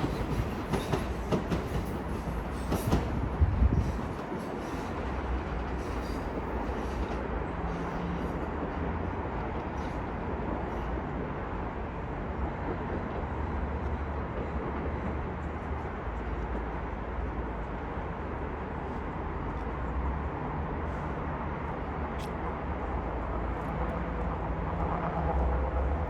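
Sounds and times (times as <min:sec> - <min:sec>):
low train rumble: 0:00.0 - 0:26.0
train wheels on rail: 0:00.0 - 0:26.0.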